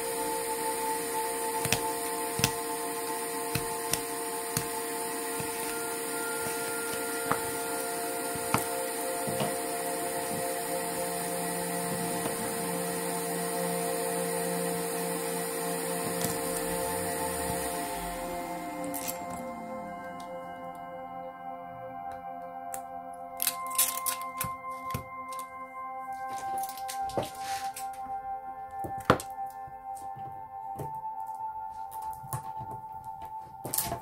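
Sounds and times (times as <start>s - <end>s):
machine hum: 0.0s - 29.6s.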